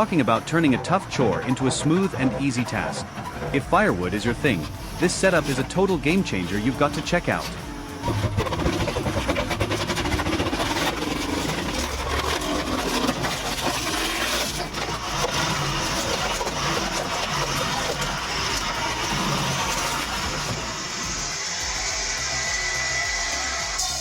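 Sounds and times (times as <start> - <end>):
log splitter engine running: 0.0 - 24.0.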